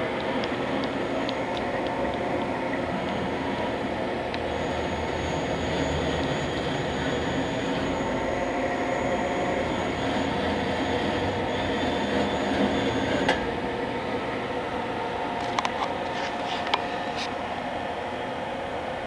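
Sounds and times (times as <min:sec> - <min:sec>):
lathe humming with high whine: 0:00.0 - 0:19.0.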